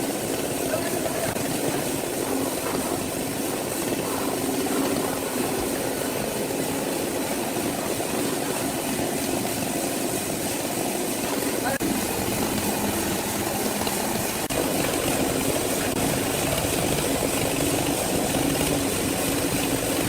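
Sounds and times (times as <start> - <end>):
heavy machinery engine drone: 0.0 - 20.0.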